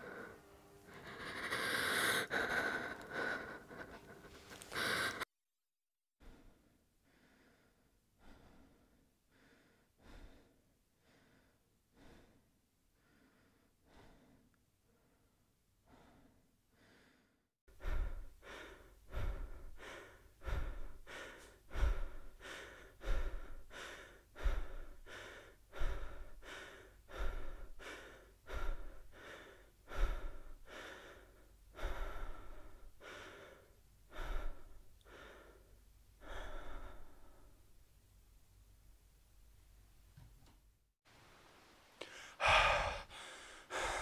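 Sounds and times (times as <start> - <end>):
faint slow breathing: 0.0 - 5.3, 6.2 - 37.8, 42.0 - 44.0
person breathing hard: 0.0 - 5.3, 6.2 - 37.7, 42.0 - 44.0.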